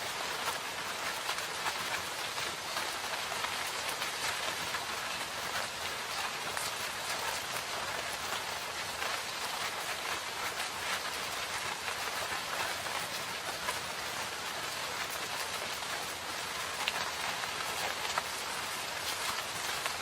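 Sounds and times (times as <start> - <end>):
raindrops hitting leaves: 0.0 - 20.0
steady rain hiss: 0.0 - 20.0.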